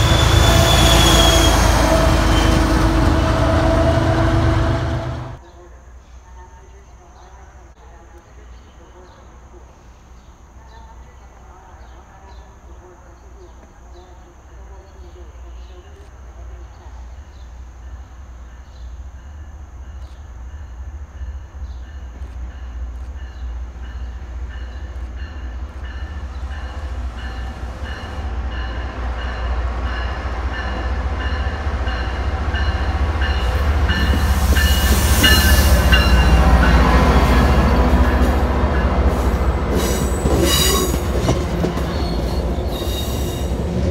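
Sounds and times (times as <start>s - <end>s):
diesel locomotive engine rumble: 0.0s - 5.4s, 7.8s - 43.9s
hissing rail and wheel noise: 0.0s - 5.4s, 8.1s - 43.9s.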